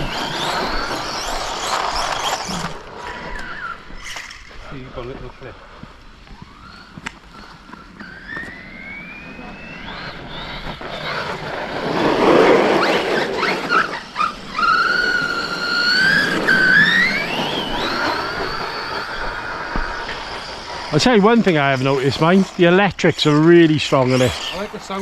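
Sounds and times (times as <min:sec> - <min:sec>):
loud rough rush: 0:00.0 - 0:03.7, 0:08.5 - 0:25.0
electric motor whining: 0:00.0 - 0:25.0.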